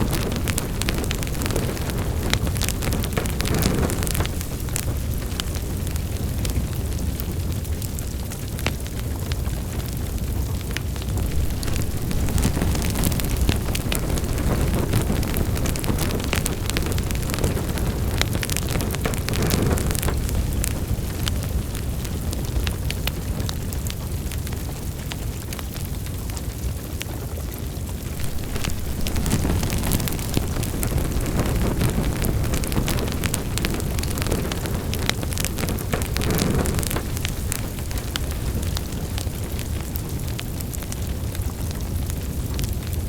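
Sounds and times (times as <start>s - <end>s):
fire crackles and pops: 0.0s - 43.0s
low rumble of flames: 0.0s - 43.0s.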